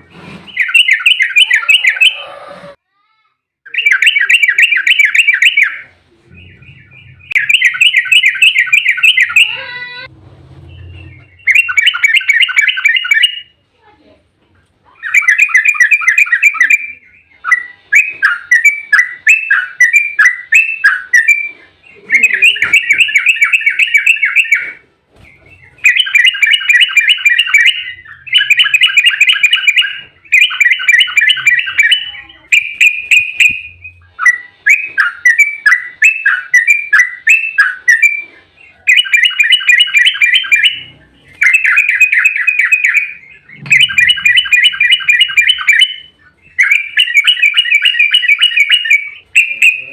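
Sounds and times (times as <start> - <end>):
bulbul singing chattering phrases: 0.6 - 2.3, 3.7 - 10.1, 14.9 - 24.8, 25.4 - 49.9.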